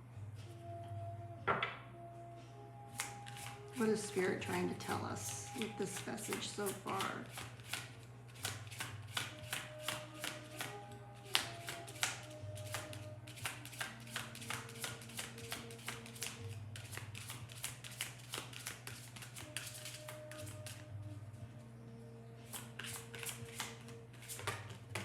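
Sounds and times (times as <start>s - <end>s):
quiet background music: 0.0s - 25.0s
cards being shuffled: 3.0s - 20.9s, 22.4s - 25.0s.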